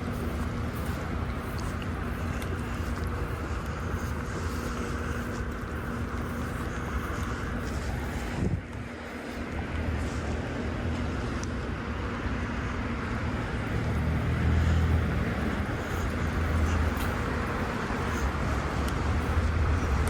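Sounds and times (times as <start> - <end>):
passing vehicle engine rumble: 0.0 - 20.0
tyres hissing on wet road: 0.0 - 20.0.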